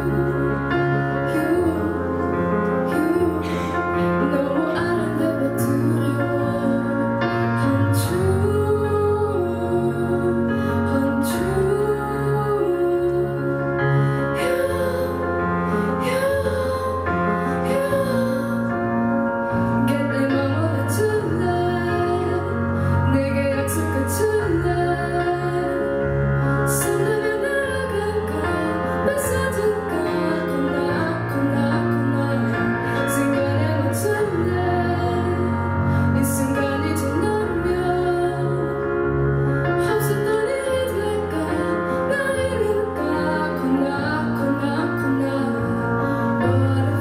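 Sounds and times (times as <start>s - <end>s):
piano chords: 0.0s - 47.0s
woman singing: 0.0s - 47.0s.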